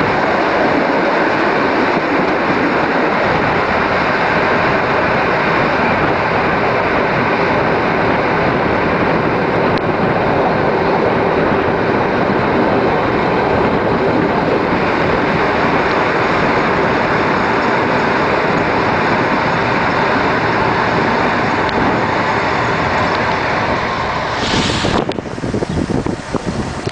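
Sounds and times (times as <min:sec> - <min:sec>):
air rushing past: 0:00.0 - 0:26.9
railcar engine and wheel noise: 0:00.0 - 0:26.9.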